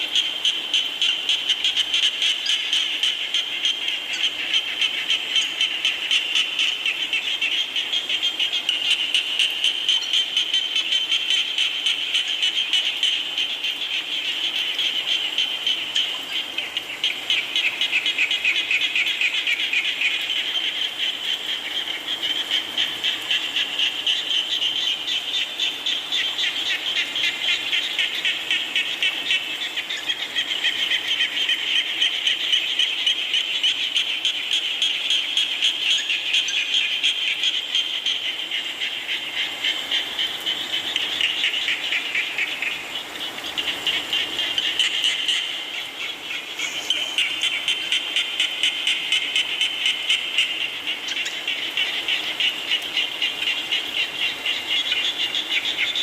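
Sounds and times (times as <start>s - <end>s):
falling rain: 0.0s - 56.0s
frogs calling in trills: 0.0s - 56.0s.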